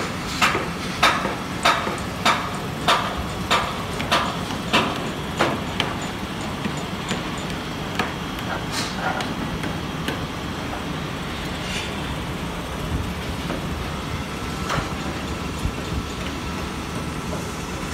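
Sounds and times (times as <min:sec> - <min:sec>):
steady background noise: 0:00.0 - 0:17.9.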